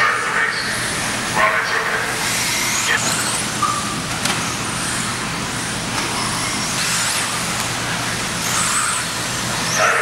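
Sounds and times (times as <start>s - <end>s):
rc car motors whining: 0.1s - 10.0s.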